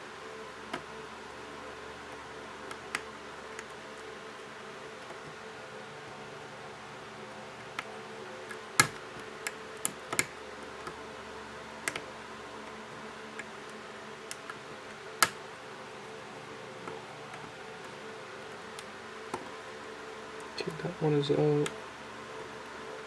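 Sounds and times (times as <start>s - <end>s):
faint hum: 0.0s - 23.0s.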